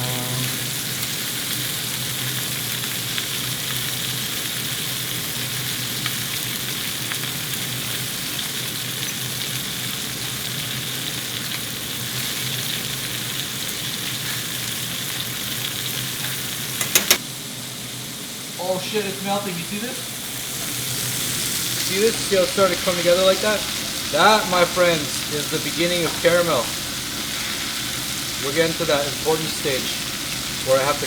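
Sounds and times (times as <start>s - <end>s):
food sizzling in frying pan: 0.0s - 31.0s.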